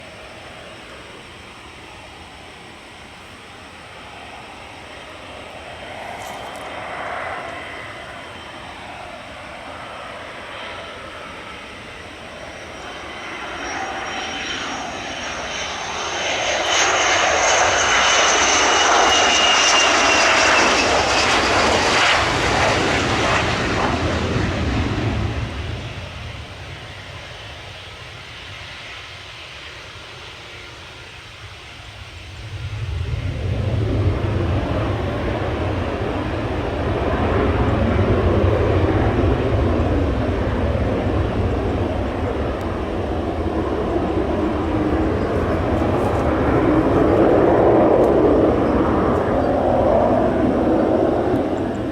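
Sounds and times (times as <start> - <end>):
jet engine deep rumble: 0.0 - 51.9
jet engine whine: 0.0 - 51.9.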